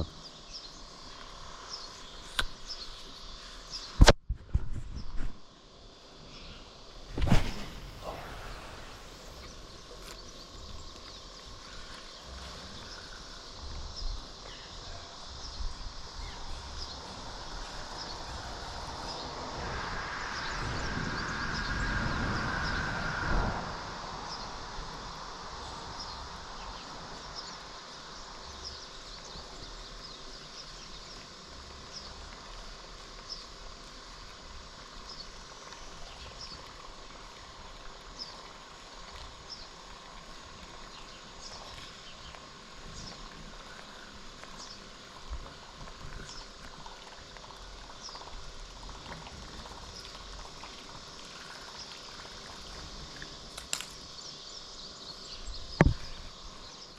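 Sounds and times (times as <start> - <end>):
rushing water: 6.2 - 56.9.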